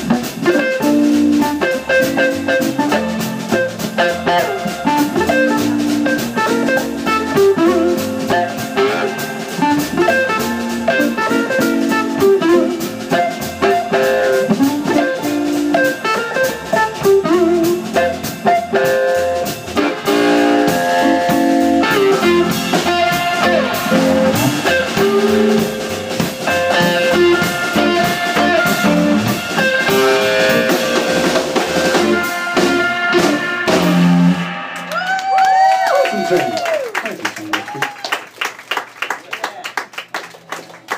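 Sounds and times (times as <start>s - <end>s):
electric guitar lines: 0.0s - 35.2s
blues band playing: 0.0s - 39.1s.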